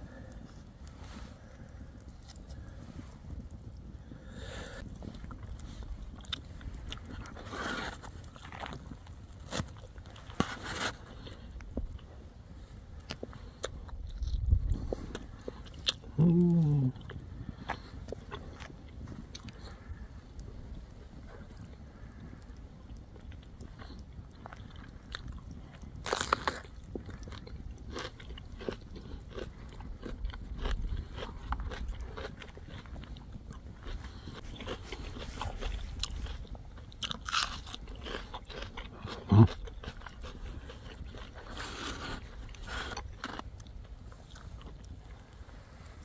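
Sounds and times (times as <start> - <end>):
person chewing crunchy food: 1.6 - 12.2, 13.0 - 45.5.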